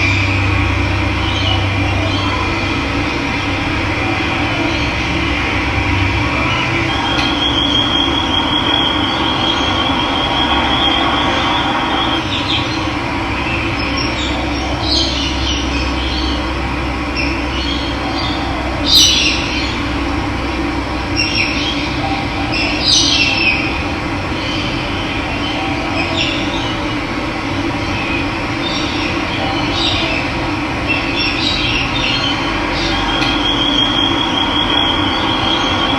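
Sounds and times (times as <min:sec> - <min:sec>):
birds chirping: 0:00.0 - 0:20.1, 0:21.0 - 0:35.9.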